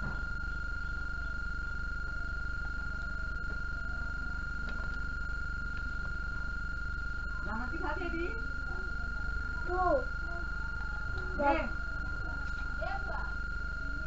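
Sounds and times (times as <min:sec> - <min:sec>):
high-pitched electrical tone: 0:00.0 - 0:14.0
low mains hum: 0:00.0 - 0:14.0.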